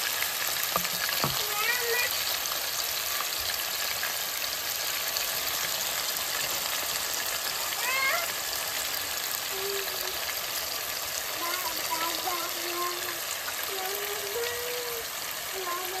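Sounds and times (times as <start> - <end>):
meatballs sizzling in oil: 0.0 - 16.0.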